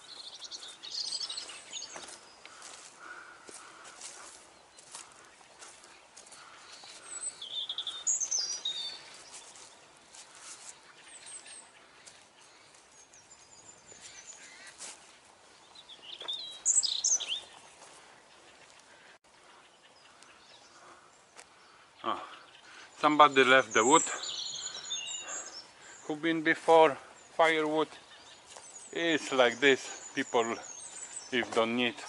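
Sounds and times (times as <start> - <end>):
songbirds singing and chirping: 0.0 - 32.0.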